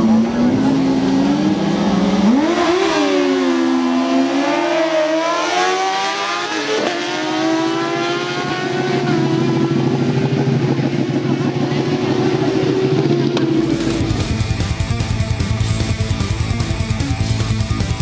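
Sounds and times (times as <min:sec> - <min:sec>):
engine drone: 0:00.0 - 0:18.0
motorcycle engines revving: 0:00.0 - 0:18.0.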